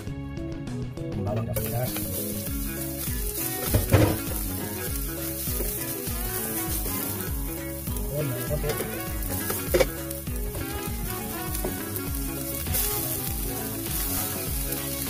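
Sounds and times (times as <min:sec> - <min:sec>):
background music with steady beat: 0:00.0 - 0:15.0
vegetables sizzling in oil: 0:01.6 - 0:15.0
spatula stirring in pan: 0:01.8 - 0:15.0.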